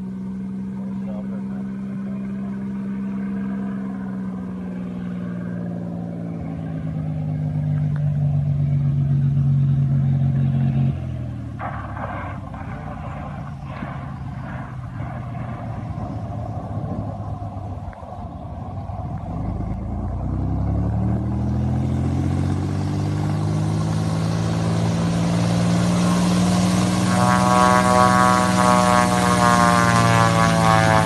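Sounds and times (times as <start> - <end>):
plane taxiing on dirt: 0.0 - 31.0
propeller plane engine droning: 0.0 - 31.0.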